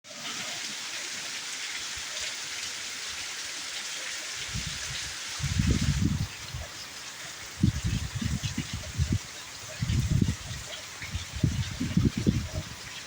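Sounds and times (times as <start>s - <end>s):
heavy rain falling: 0.1s - 13.0s.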